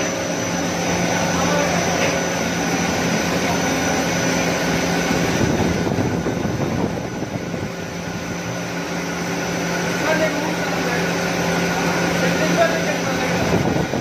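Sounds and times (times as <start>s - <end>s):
machine noise with low hum: 0.0s - 14.0s.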